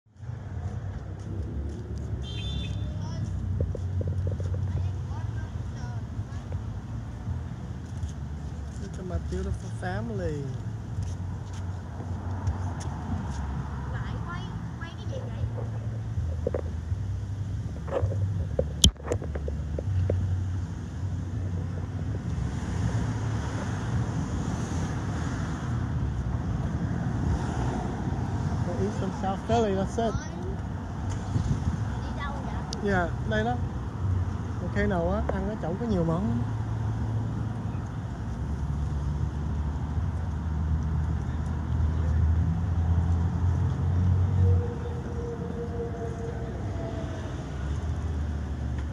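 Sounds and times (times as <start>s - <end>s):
wind rumbling on microphone: 0.2s - 48.9s.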